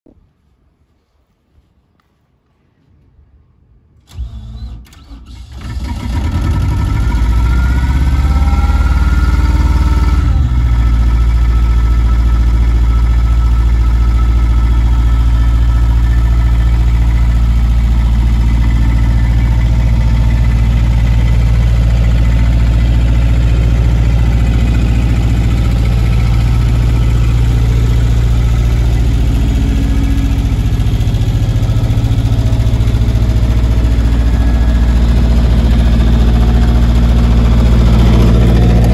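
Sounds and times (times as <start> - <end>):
diesel compressor engine droning: 4.0 - 38.9.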